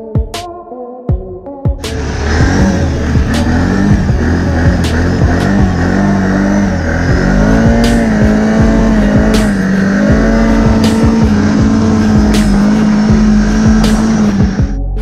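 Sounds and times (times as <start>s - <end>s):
quad engine running under load: 1.8s - 14.8s.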